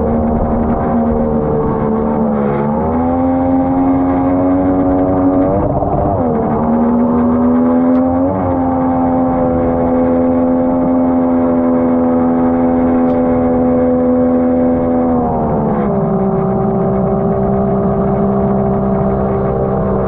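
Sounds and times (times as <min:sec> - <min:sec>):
outboard boat motor running: 0:00.0 - 0:20.0.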